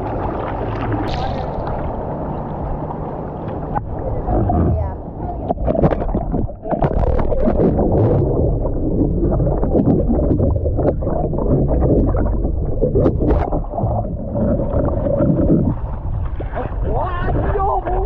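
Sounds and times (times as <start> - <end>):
seawater splashing: 0.0 - 18.0.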